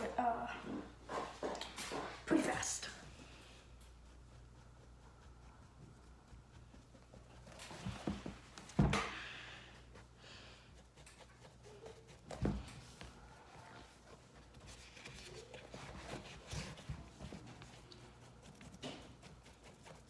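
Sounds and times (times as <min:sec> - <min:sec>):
paintbrush dabbing and scrubbing: 0:01.1 - 0:20.0.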